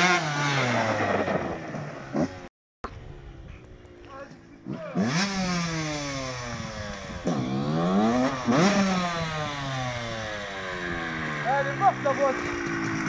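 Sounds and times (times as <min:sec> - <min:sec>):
dirt bike engine revving: 0:00.0 - 0:02.5, 0:04.5 - 0:13.0.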